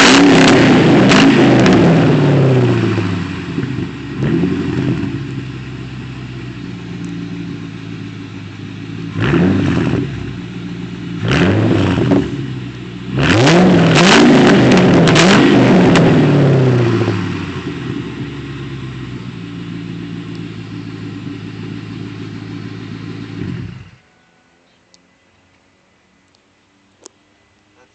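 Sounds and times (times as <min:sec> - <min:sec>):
car engine idling and revving: 0:00.0 - 0:24.1.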